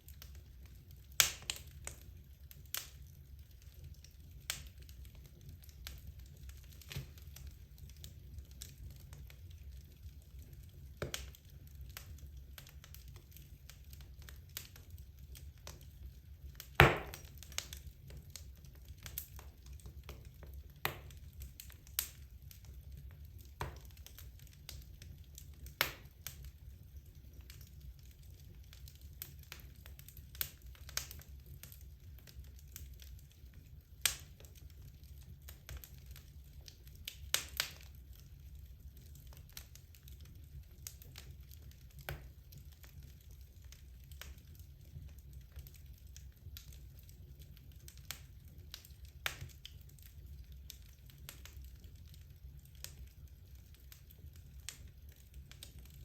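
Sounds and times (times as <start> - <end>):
wood logs burning in a fireplace: 0.0 - 56.0.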